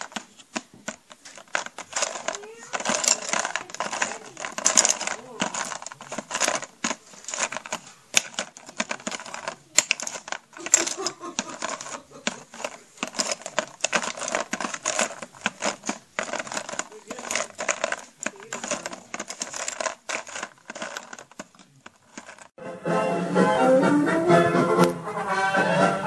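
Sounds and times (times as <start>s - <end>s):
plastic toys clattering in a tray: 0.0s - 22.6s.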